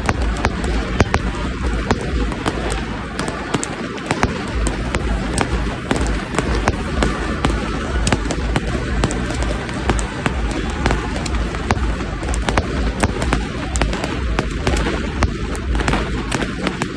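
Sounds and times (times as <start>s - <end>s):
deep rumble: 0.0s - 16.9s
fireworks bangs and cracks: 0.0s - 16.9s.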